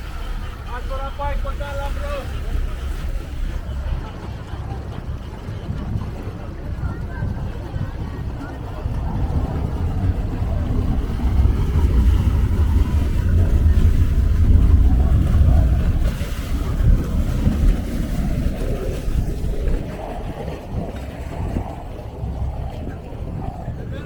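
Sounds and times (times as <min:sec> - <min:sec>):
motorboat engine rumble: 0:00.0 - 0:24.0
wash of water: 0:00.0 - 0:24.0.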